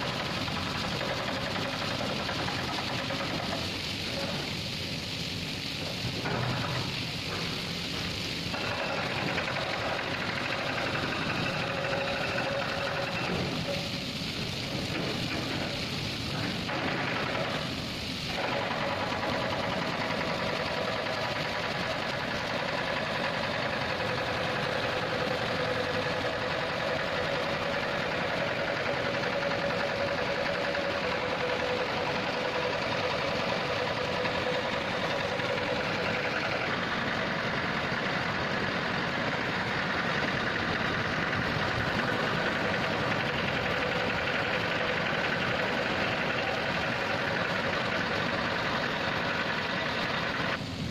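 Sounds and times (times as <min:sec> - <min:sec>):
steady machine hum: 0:00.0 - 0:50.9
water spraying onto concrete: 0:00.0 - 0:50.9.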